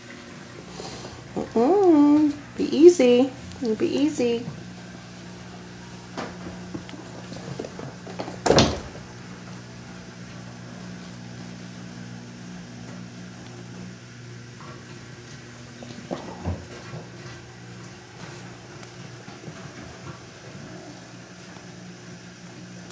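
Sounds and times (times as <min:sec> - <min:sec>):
household hum: 0:00.0 - 0:22.9.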